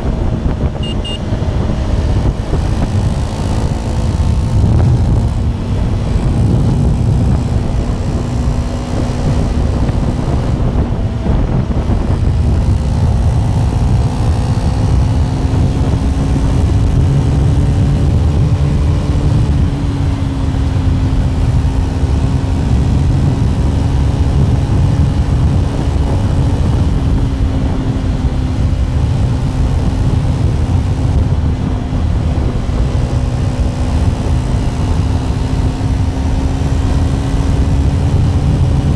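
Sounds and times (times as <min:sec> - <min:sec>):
motorcycle engine cruising: 0:00.0 - 0:38.9
wind rumble on microphone: 0:00.0 - 0:38.9.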